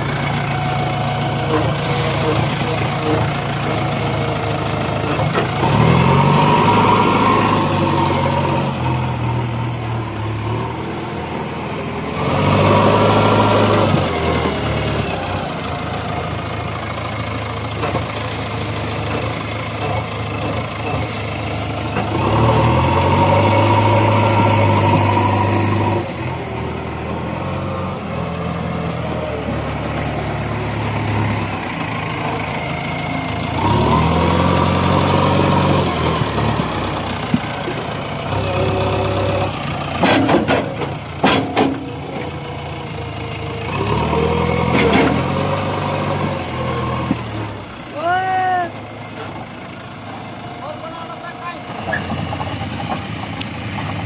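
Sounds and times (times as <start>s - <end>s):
heavy diesel engine revving: 0.0s - 54.0s.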